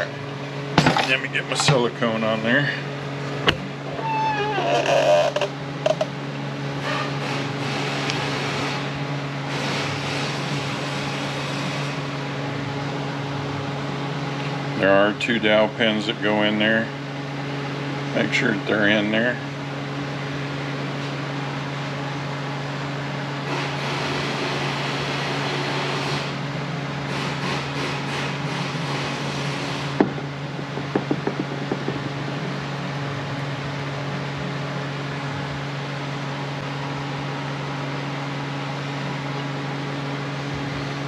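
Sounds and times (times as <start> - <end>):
ventilation hum: 0.0 - 41.0.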